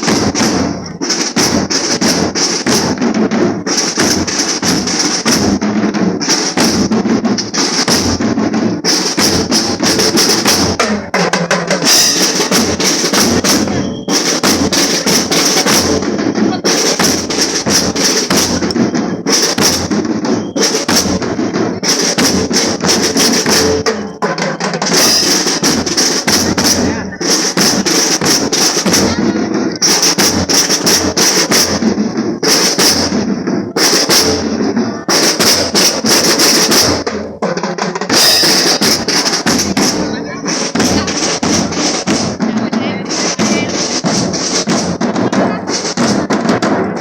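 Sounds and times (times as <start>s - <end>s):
marching drum band playing: 0.0s - 47.0s.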